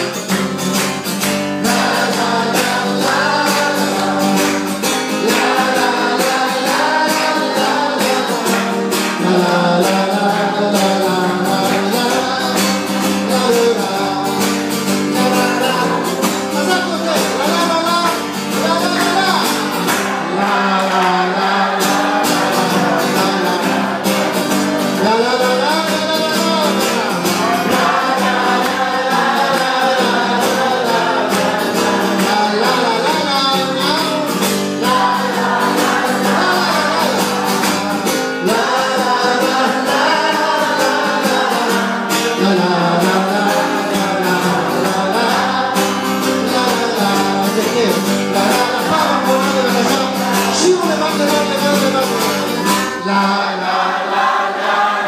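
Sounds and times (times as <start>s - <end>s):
acoustic guitar strumming: 0.0s - 55.0s
man singing into a microphone: 1.5s - 54.1s.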